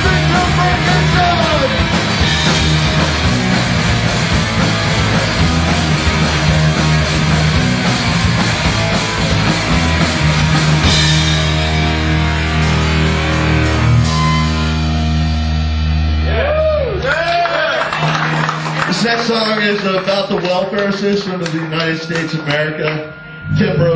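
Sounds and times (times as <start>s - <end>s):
heavy rock band playing: 0.0s - 23.9s.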